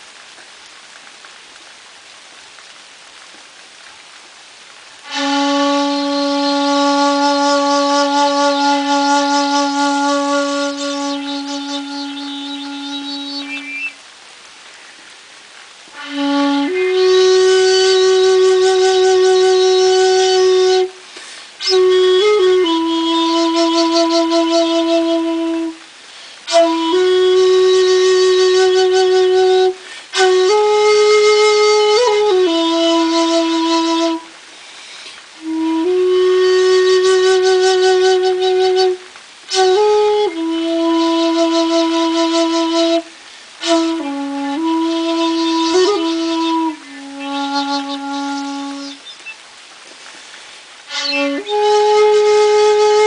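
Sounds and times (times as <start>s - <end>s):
bamboo flute long held note: 5.0s - 14.1s, 15.9s - 21.0s, 21.6s - 34.4s, 35.3s - 49.4s, 50.8s - 53.0s.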